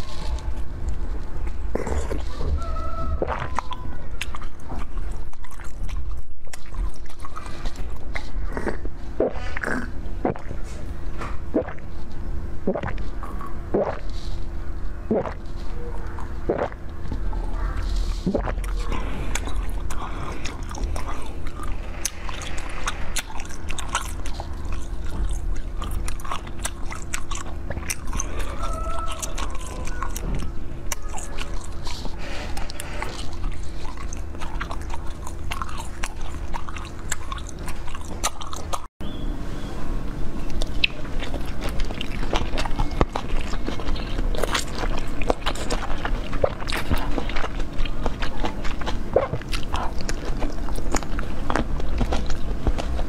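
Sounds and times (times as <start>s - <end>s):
chewing jelly sweets: 0.0s - 38.9s, 40.0s - 53.0s
crunchy biting and chewing: 0.0s - 38.9s, 40.2s - 53.0s.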